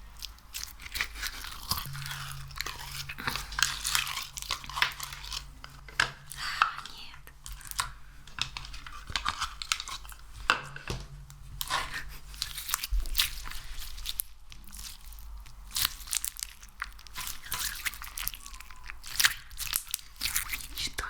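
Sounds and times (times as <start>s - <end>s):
hands squeezing crunchy material: 0.0s - 10.5s, 11.6s - 21.0s.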